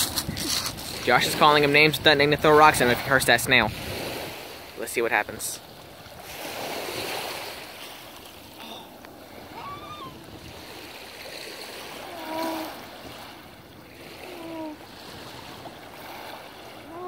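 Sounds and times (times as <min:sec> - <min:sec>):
water washing at shore: 0:00.0 - 0:17.0.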